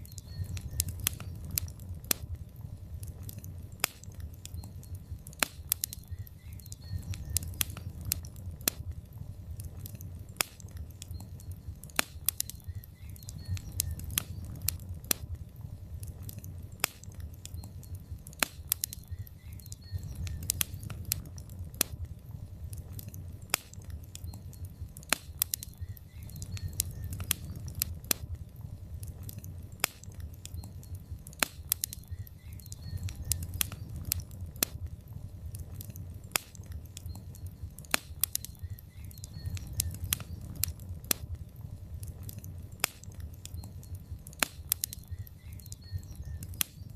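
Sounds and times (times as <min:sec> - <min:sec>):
log fire crackling: 0:00.0 - 0:46.9
low rumble of flames: 0:00.0 - 0:46.9.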